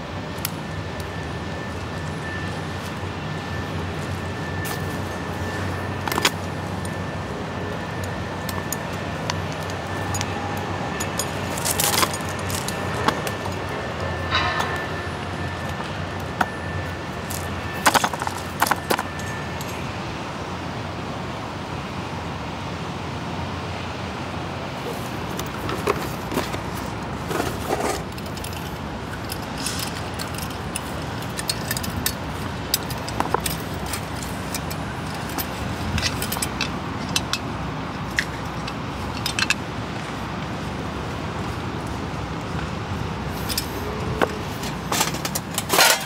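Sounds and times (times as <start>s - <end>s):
steady rushing background noise: 0.0s - 46.0s.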